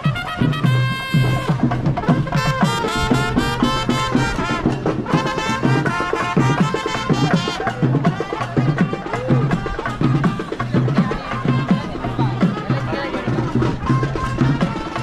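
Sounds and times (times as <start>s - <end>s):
steady drumming: 0.0s - 15.0s
trumpets playing lively tune: 0.0s - 15.0s.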